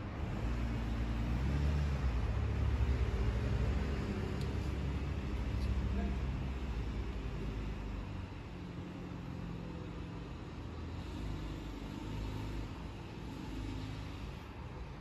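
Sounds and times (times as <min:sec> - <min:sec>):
traffic rumbling by: 0:00.0 - 0:15.0.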